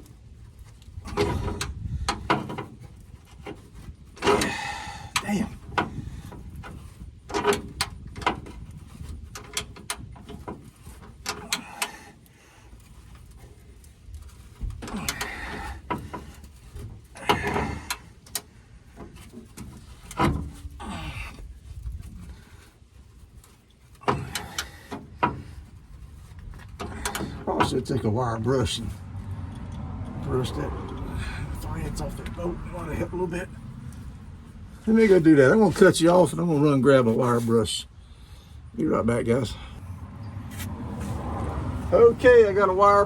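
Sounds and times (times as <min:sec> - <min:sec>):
metal clanks and scrapes: 0:00.0 - 0:37.8.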